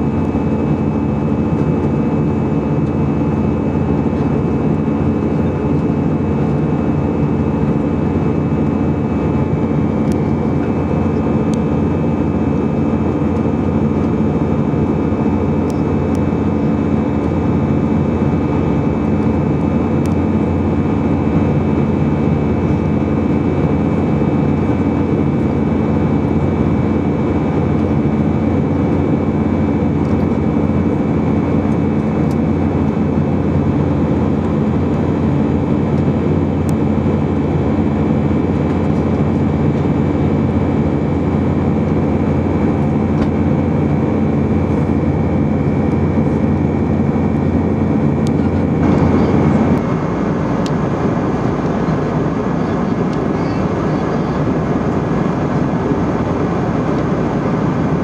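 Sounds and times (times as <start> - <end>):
airplane cabin drone: 0.0 - 58.0
high engine whine: 0.0 - 58.0.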